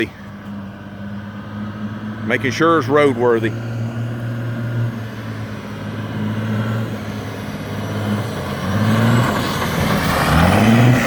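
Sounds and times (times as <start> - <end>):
diesel truck engine accelerating: 0.0 - 11.0.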